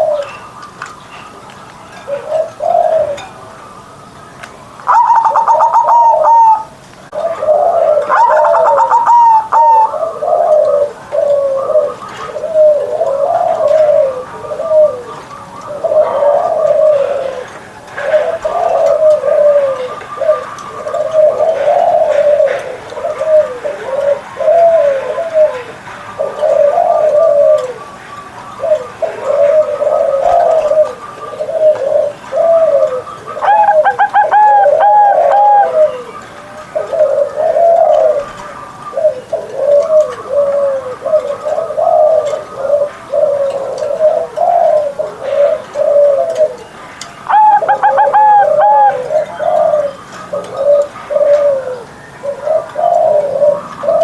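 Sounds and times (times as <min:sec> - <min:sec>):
dove cooing: 0:00.0 - 0:54.0
high-pitched ringing bird call: 0:04.8 - 0:17.6, 0:18.2 - 0:54.0.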